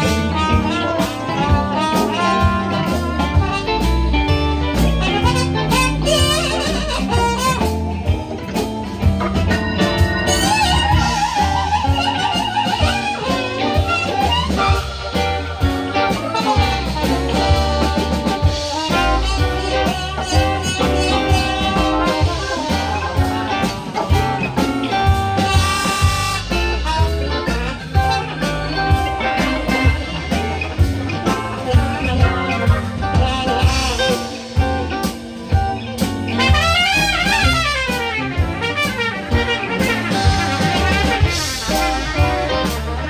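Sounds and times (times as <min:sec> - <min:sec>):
blues-swing band playing: 0:00.0 - 0:43.0
trumpet lead: 0:00.0 - 0:43.0.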